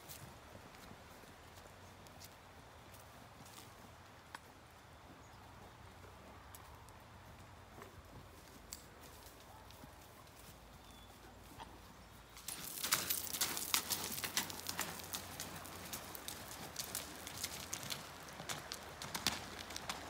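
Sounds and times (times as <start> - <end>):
hoofbeats on soft ground: 0.0 - 20.0
hooves crunching on gravel: 0.0 - 20.0.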